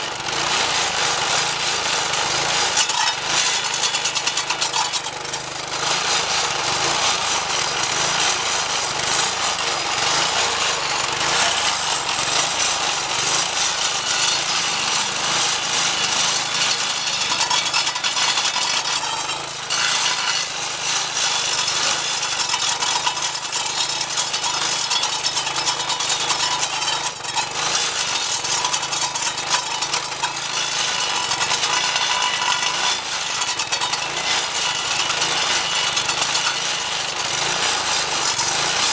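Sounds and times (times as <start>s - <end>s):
stump grinder grinding wood: 0.0s - 38.9s.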